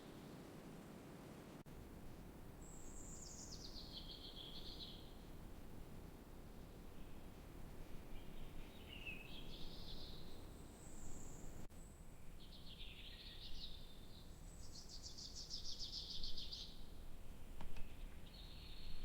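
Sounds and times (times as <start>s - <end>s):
songbirds singing: 2.5s - 19.0s.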